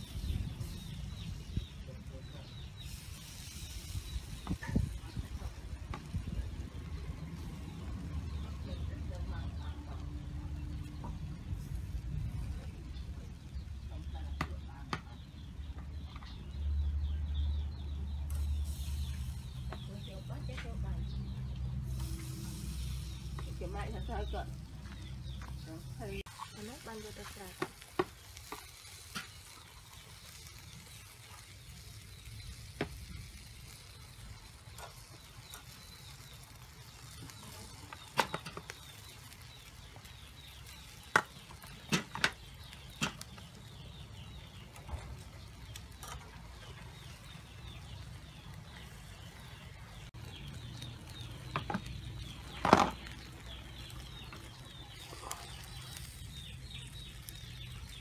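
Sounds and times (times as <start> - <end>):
chicken wings sizzling on grill: 0.0 - 58.0.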